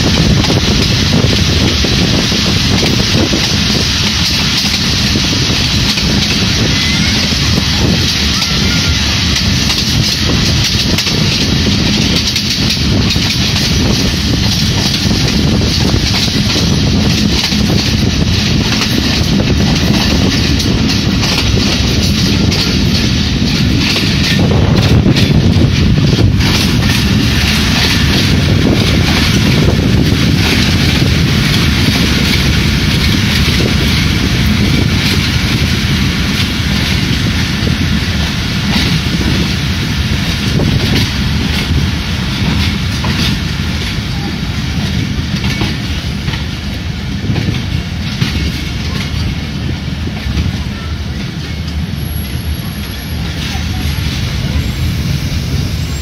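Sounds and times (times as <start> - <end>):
passing diesel locomotive: 0.0 - 56.0
train wheels rumbling and rattling: 0.0 - 56.0.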